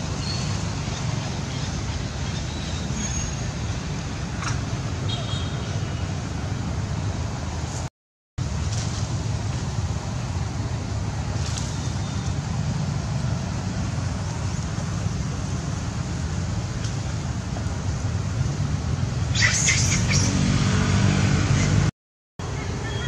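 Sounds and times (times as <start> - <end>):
outdoor background rumble: 0.0 - 23.0.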